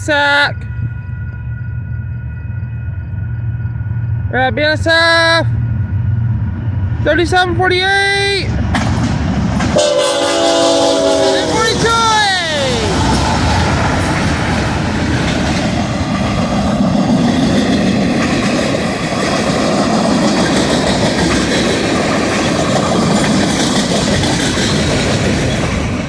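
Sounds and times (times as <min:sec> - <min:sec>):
freight train wheels rolling: 0:00.0 - 0:26.0.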